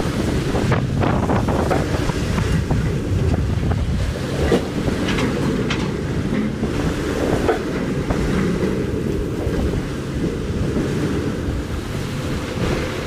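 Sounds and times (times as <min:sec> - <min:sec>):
waves breaking against ship bow: 0:00.0 - 0:13.0
wind buffeting microphone: 0:00.0 - 0:13.0.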